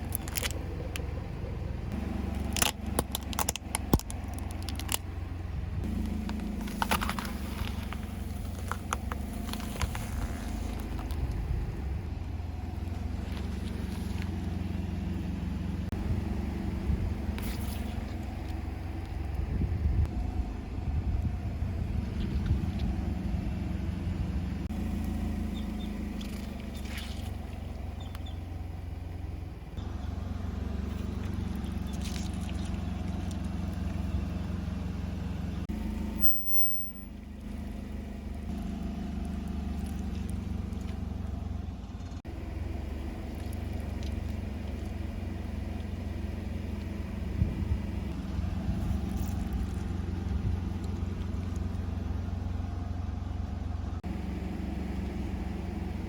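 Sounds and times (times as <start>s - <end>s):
car engine running at low speed: 0.0s - 56.0s
objects crackling under tyres: 0.0s - 56.0s.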